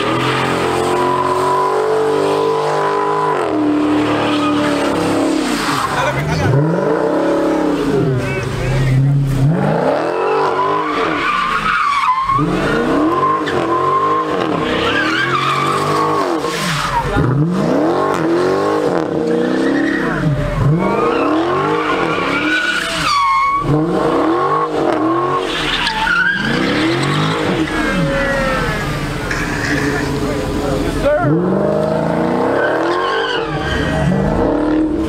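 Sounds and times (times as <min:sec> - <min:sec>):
car engine revving: 0:00.0 - 0:35.0
tires squealing on pavement: 0:00.0 - 0:35.0.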